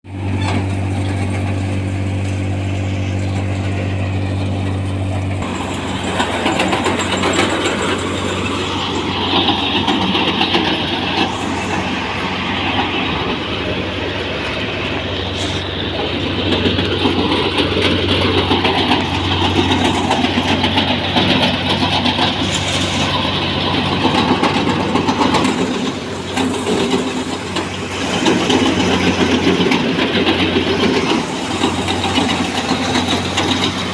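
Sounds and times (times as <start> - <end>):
tractor engine hum: 0.0 - 33.9
thresher machine noise: 0.1 - 33.9.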